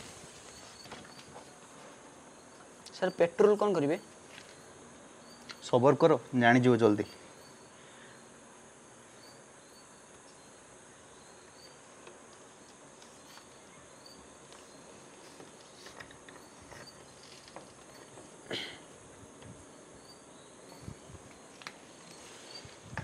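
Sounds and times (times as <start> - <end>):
night insects chirping: 0.0 - 23.0.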